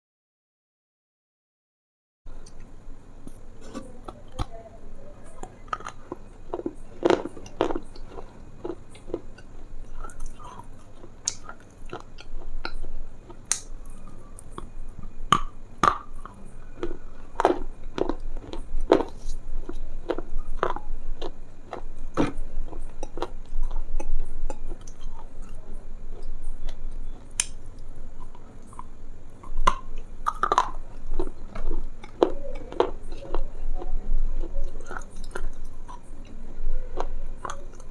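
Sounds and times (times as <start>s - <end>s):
chewing and crunching: 2.4s - 37.9s
mouth clicks: 5.4s - 25.6s, 26.2s - 37.9s.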